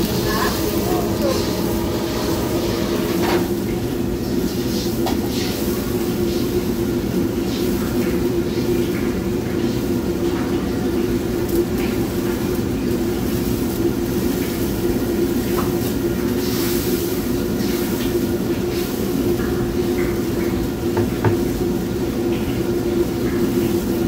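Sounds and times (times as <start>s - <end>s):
gas range and exhaust hood roar: 0.0s - 24.0s.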